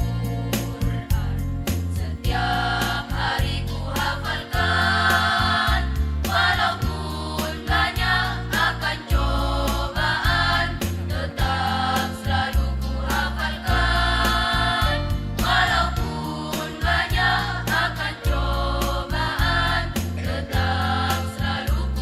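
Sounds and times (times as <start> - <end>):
instrumental accompaniment with heavy bass: 0.0 - 22.0
choir singing a march in unison: 2.0 - 22.0.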